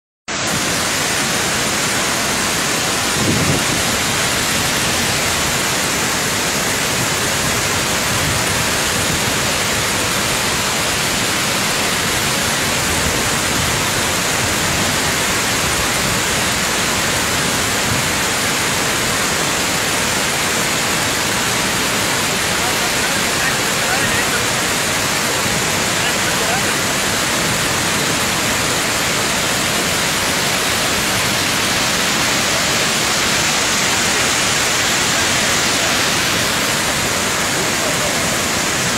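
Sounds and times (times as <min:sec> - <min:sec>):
rush of water and spray: 0:00.3 - 0:38.9.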